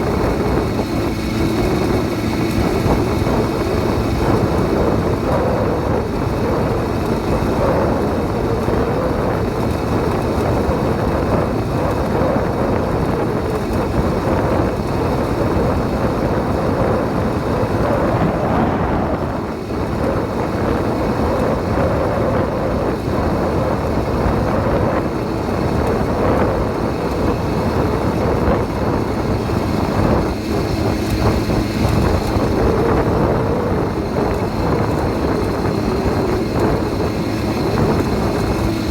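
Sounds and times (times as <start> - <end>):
two-stroke engine running: 0.0 - 38.9
wind noise on microphone: 0.0 - 38.9.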